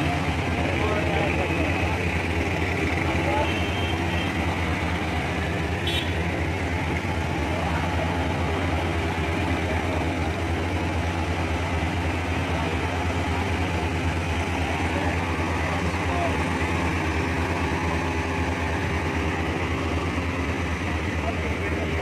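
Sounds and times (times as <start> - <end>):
fire engine idling: 0.0 - 22.0.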